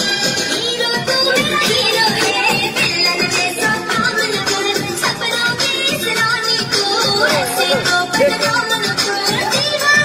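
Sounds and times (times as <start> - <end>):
song with singing voice: 0.0 - 10.0.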